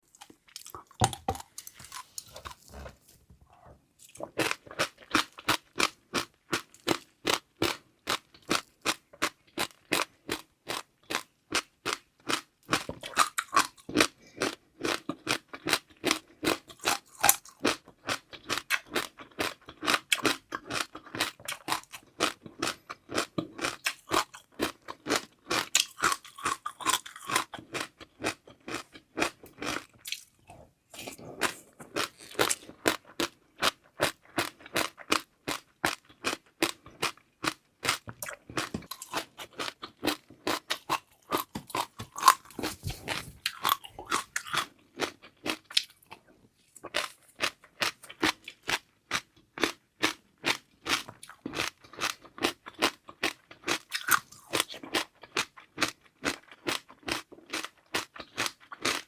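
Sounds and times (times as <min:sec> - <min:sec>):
crunchy food eating close up: 0:00.0 - 0:59.0.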